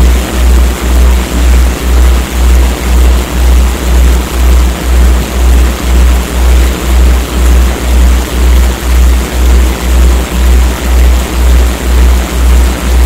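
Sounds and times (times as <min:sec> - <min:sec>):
deep pulsing hum: 0:00.0 - 0:13.0
steady noise hiss: 0:00.0 - 0:13.0.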